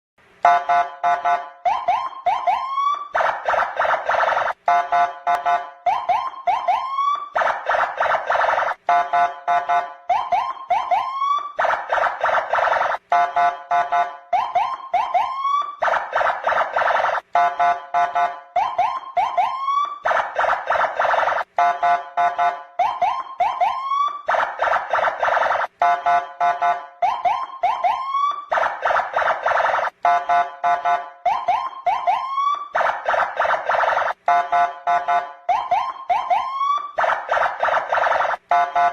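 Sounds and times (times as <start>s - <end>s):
police siren chirps and whoops: 0.4s - 38.9s.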